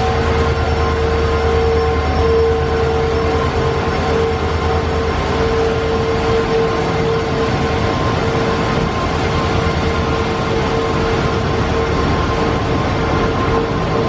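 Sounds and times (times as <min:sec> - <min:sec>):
diesel locomotive engine rumble: 0:00.0 - 0:14.0
high turbocharger whine: 0:00.0 - 0:14.0.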